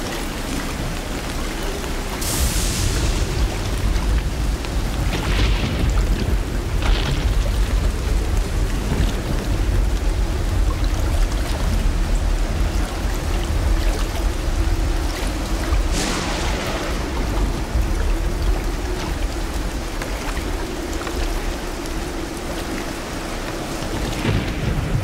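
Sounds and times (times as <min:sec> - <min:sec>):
steady rain falling: 0:00.0 - 0:25.0
low rumble: 0:00.4 - 0:25.0.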